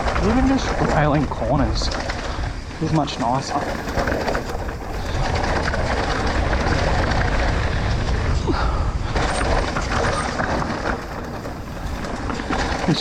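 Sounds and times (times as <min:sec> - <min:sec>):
bike rattling: 0:00.0 - 0:13.0
tyres rumbling over dirt: 0:00.0 - 0:13.0
wind buffeting microphone: 0:00.0 - 0:13.0.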